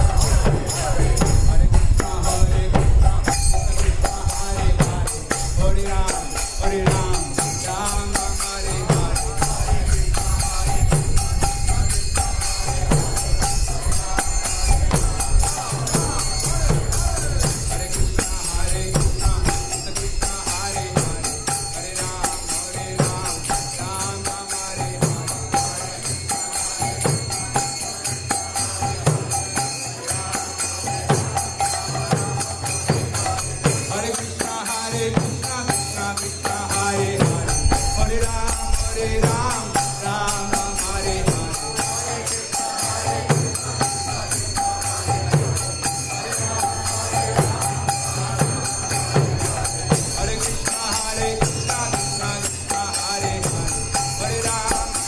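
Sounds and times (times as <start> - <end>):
hand cymbals ringing: 0.0 - 55.0
voices chanting: 0.0 - 55.0.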